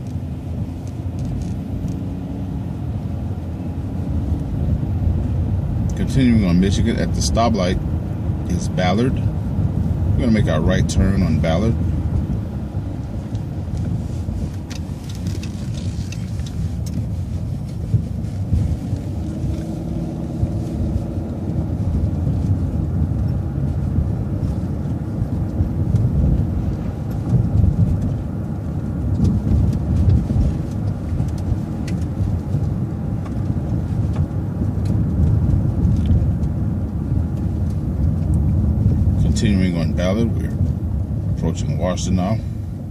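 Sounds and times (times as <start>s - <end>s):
bus engine: 0.0s - 42.9s
road rumble: 0.0s - 42.9s.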